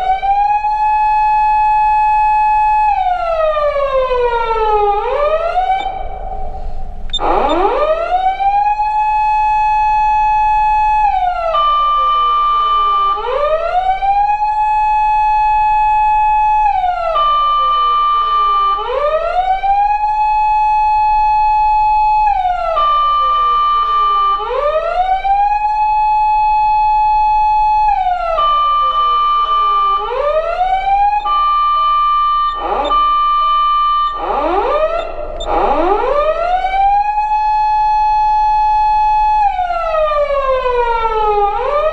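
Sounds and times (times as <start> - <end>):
fire engine siren wail: 0.0 - 41.9
steady higher siren tone: 0.0 - 41.9.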